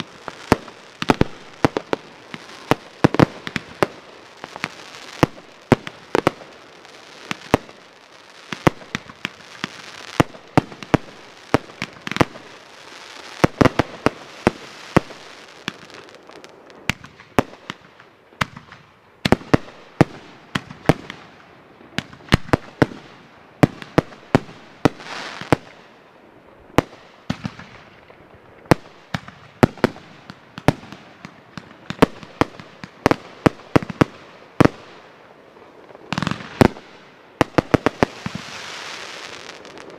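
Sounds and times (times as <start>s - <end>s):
fireworks bangs: 0.0s - 25.8s, 26.7s - 39.9s
fireworks crackle and hiss: 0.0s - 39.9s.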